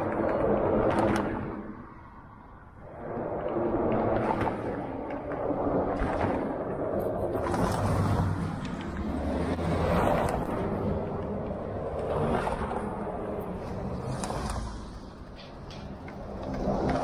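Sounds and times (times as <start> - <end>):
wind gusting against microphone: 0.0 - 17.0.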